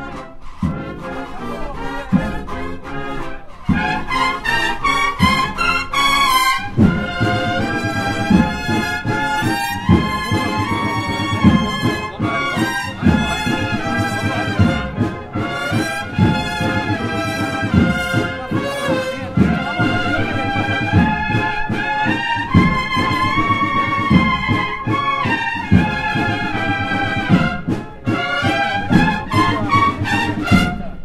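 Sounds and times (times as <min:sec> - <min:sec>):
brass band processional march: 0:00.0 - 0:31.0
steady drum beat: 0:00.0 - 0:31.0.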